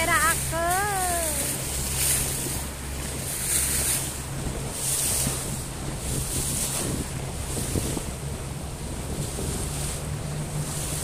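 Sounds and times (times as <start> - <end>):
speedboat engine droning: 0.0 - 11.0
water rushing past hull: 0.0 - 11.0
wind buffeting microphone: 0.0 - 11.0.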